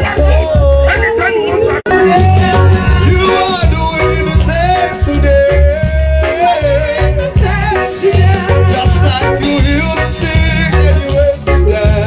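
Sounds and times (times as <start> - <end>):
gospel band playing: 0.0 - 12.0
person singing long notes: 0.0 - 12.0
pulsing bass beat: 0.0 - 12.0.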